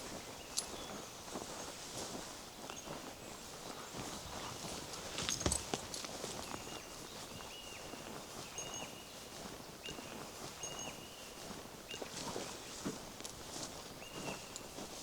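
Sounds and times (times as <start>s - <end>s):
footsteps on forest path: 0.0s - 15.0s.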